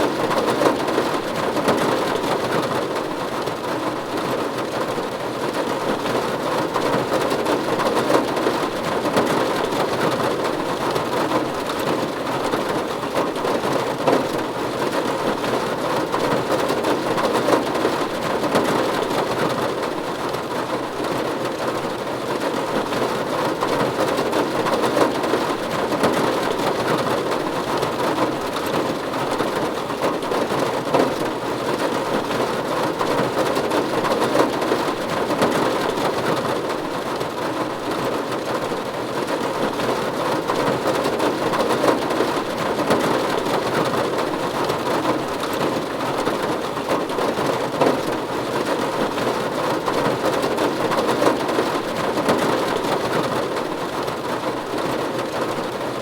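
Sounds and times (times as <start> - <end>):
rain pattering on a roof: 0.0 - 56.0.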